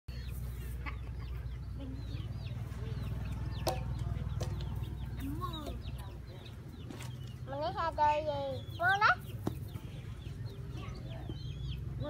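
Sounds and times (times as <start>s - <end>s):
chick peeping: 0.1s - 12.0s
chickens clucking: 0.1s - 12.0s.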